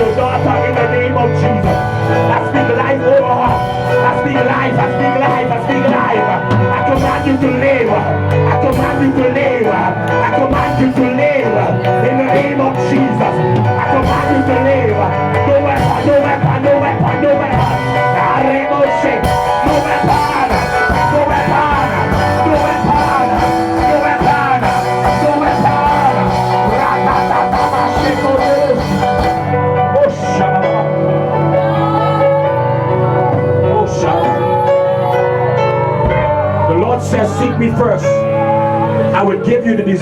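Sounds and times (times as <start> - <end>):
worship band music: 0.0 - 40.0.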